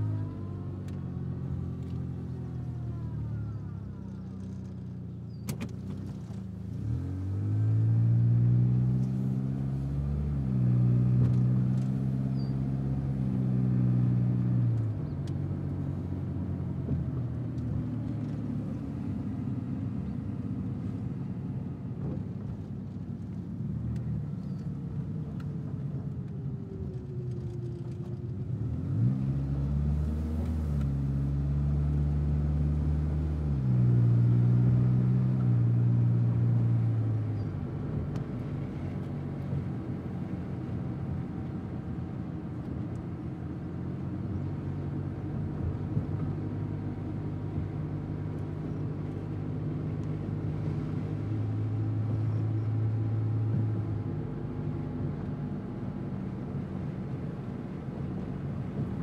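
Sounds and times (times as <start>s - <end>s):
car engine: 0.0s - 59.0s
road noise: 0.0s - 59.0s.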